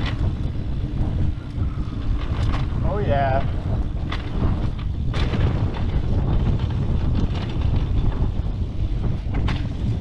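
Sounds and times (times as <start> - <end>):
bike knocks and rattles: 0.0 - 10.0
wind buffeting microphone: 0.0 - 10.0.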